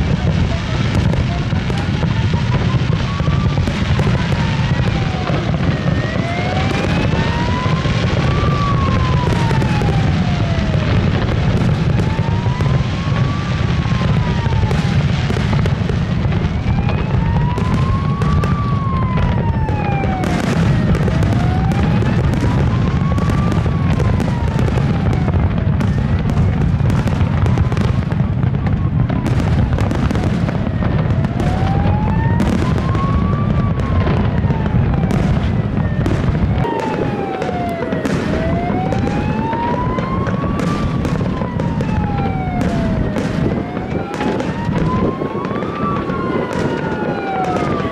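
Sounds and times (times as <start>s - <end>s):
fireworks bursting: 0.0s - 47.9s
siren wailing: 0.0s - 47.9s.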